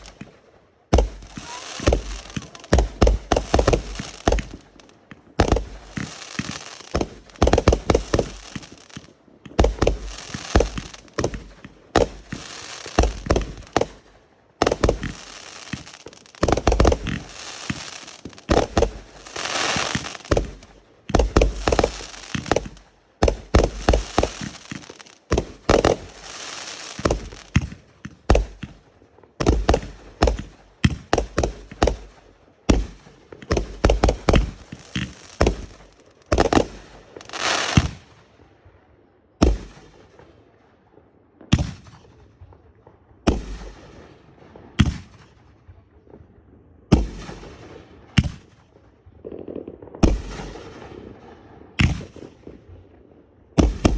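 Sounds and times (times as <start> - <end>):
fireworks crackling: 0.0 - 38.2, 46.9 - 53.9
fireworks bangs: 0.0 - 38.4, 39.4 - 40.3, 41.4 - 46.2, 46.8 - 53.9.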